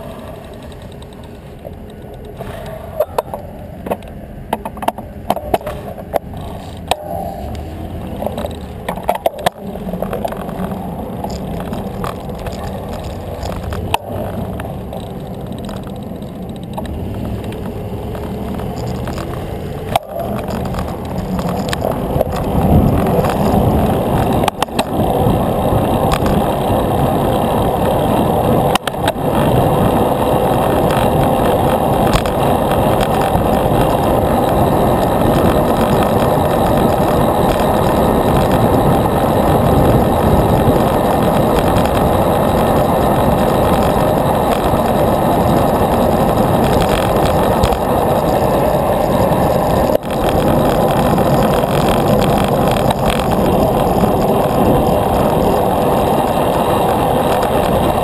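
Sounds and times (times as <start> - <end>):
bicycle tyre road noise: 0.0 - 58.0
wind rushing over microphone: 0.0 - 58.0.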